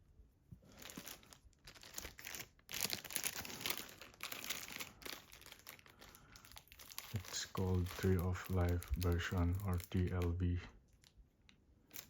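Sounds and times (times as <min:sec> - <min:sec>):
package wrapping crinkling and tearing: 0:00.7 - 0:12.0.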